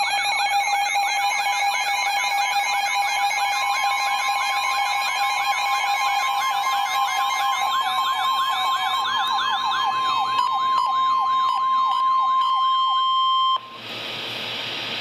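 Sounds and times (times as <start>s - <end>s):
electronic siren warble: 0.0s - 13.9s
steady alarm tone: 0.0s - 13.9s.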